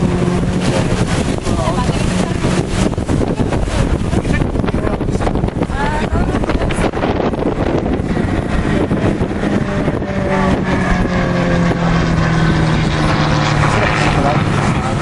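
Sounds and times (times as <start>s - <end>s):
aircraft engine droning: 0.0s - 15.0s
wind noise on microphone: 0.0s - 15.0s.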